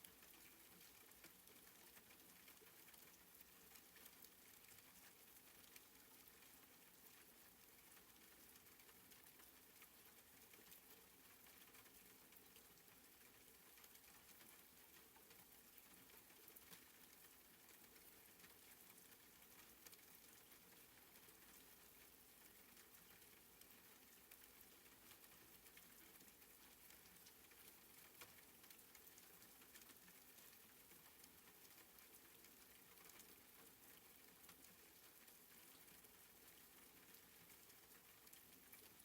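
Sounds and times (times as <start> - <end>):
soft rain patter: 0.0 - 39.0.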